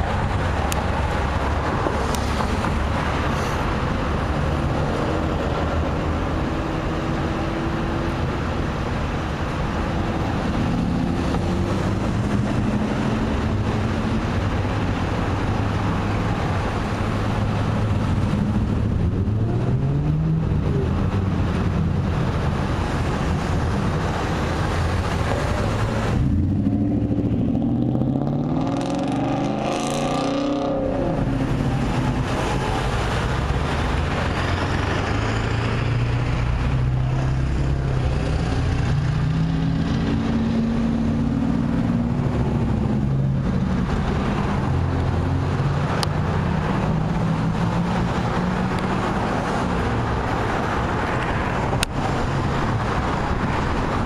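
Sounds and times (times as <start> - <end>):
cars and trucks driving past: 0.0 - 54.0.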